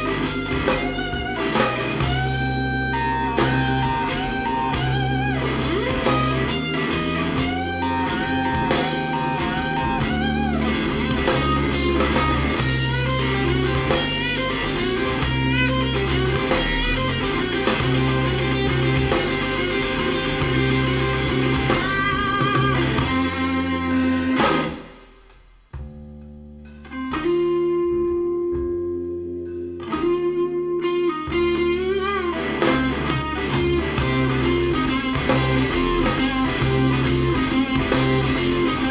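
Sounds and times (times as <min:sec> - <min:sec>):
blues-rock music with electric guitar: 0:00.0 - 0:25.1, 0:26.8 - 0:38.9.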